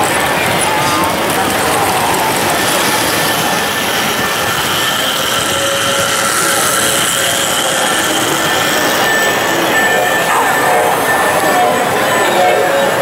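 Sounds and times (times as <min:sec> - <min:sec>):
faint steady tones: 0:00.0 - 0:13.0
toy trains whirring: 0:00.0 - 0:13.0.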